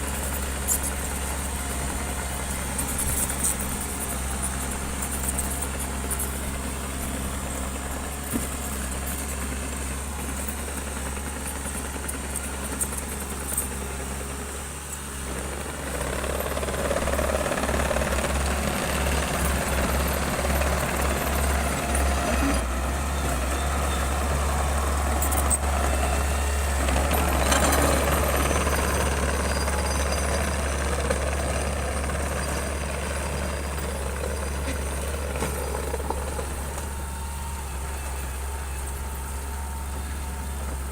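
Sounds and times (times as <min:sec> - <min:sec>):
bulldozer diesel engine drone: 0:00.0 - 0:40.9.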